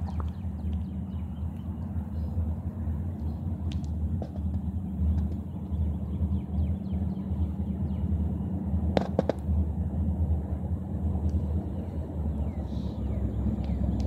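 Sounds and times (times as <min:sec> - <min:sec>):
train rumbling: 0:02.0 - 0:14.0.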